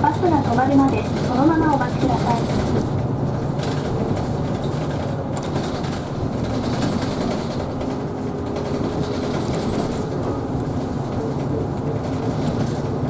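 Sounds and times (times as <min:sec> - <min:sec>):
bus interior engine hum: 0:00.0 - 0:13.0
road noise: 0:00.0 - 0:13.0.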